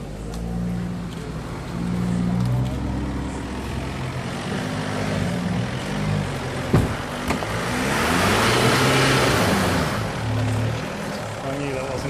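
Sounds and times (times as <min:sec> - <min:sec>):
car engine running under load: 0:00.0 - 0:12.0.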